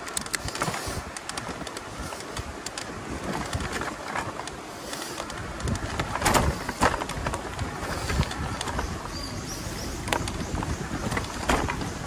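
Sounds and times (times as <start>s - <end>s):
bike frame knocking and rattling: 0.0s - 4.6s, 5.2s - 9.0s, 10.0s - 12.0s
rumble of tyres: 0.0s - 12.0s
wind: 0.0s - 12.0s.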